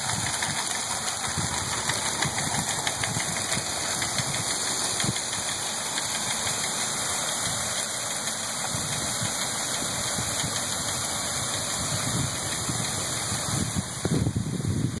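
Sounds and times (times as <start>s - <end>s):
auger humming and whirring: 0.0s - 15.0s.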